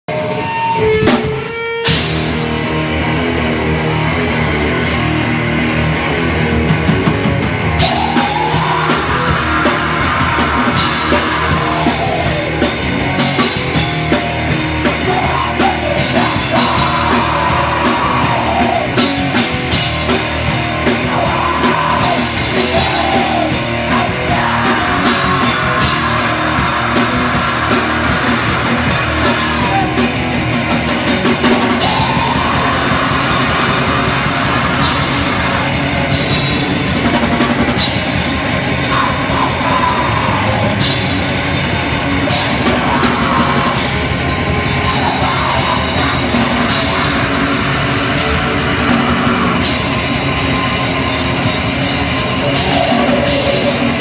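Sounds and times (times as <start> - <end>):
drums and cymbals: 0.0 - 4.1, 6.4 - 54.0
distorted electric guitar: 0.0 - 54.0.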